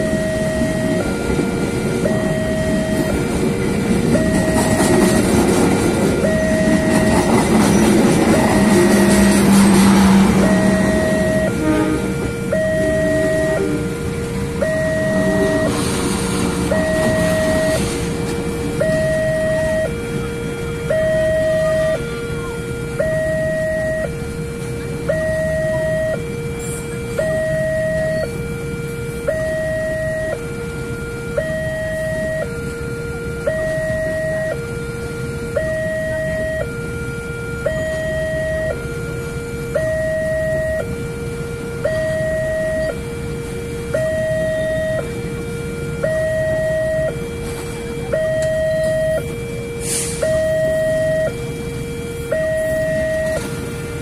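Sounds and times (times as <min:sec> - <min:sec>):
train rumbling over crossing: 0:00.0 - 0:54.0
two-tone crossing warning signal: 0:00.0 - 0:54.0.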